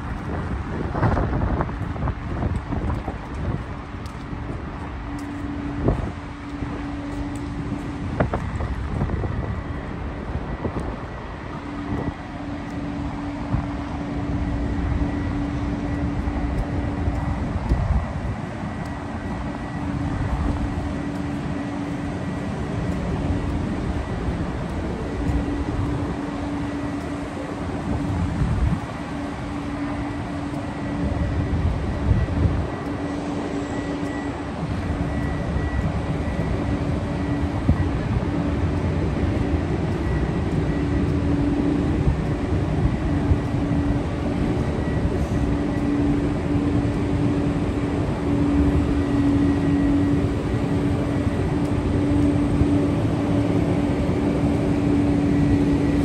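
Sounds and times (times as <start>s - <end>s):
low rumble of city traffic: 0.0s - 56.0s
steady hum: 0.0s - 56.0s
wind buffeting microphone: 0.0s - 56.0s.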